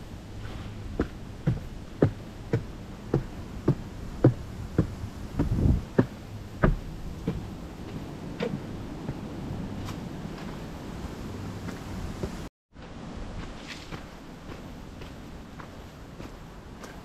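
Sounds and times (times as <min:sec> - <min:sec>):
footsteps walking on a trail: 0:00.2 - 0:17.0.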